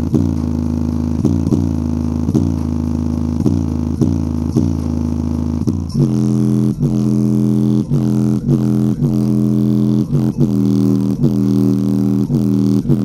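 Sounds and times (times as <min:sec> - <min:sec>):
deep bass notes from speaker: 0:00.0 - 0:13.0.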